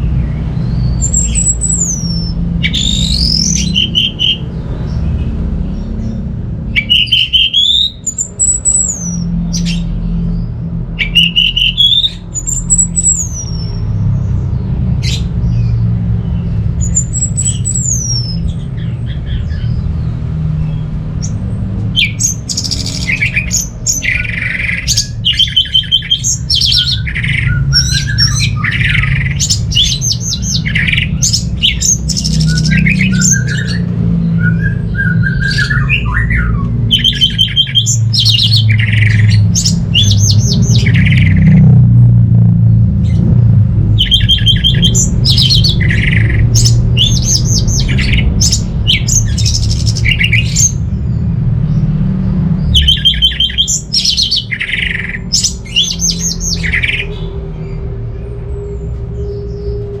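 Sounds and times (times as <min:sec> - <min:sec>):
bird singing warbles and trills: 0:00.0 - 1:00.0
steady low rumble: 0:00.0 - 1:00.0.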